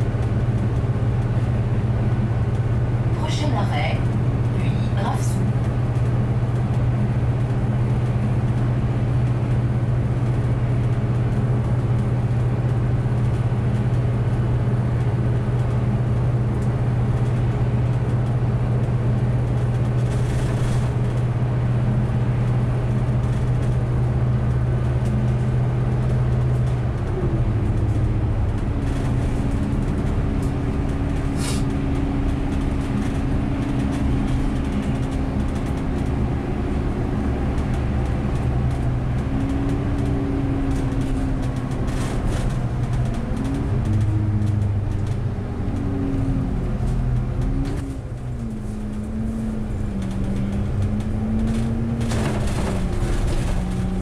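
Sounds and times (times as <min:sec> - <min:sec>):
bus drivetrain hum: 0:00.0 - 0:54.0.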